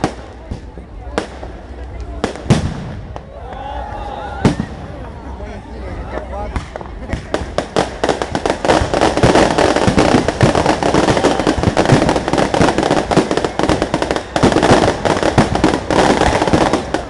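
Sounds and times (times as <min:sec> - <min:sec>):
firecrackers cracking and popping: 0:00.0 - 0:05.1, 0:06.1 - 0:17.0.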